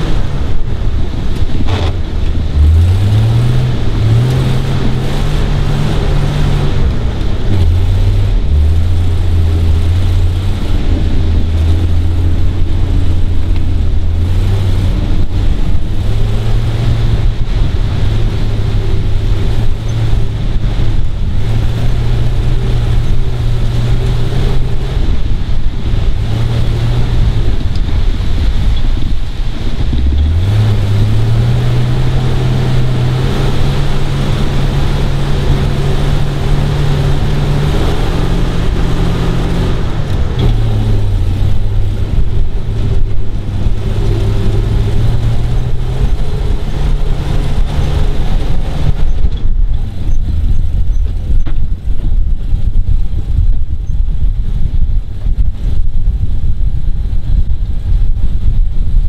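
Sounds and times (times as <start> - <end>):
truck engine at low speed: 0.0 - 59.0.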